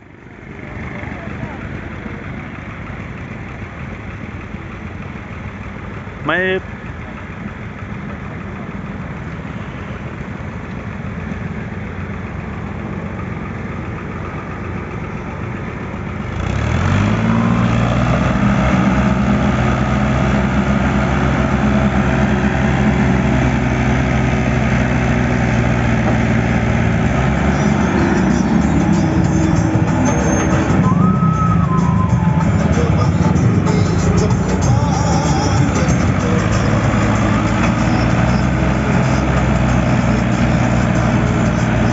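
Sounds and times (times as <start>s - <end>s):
vehicle engine idling and revving: 0.0s - 41.9s.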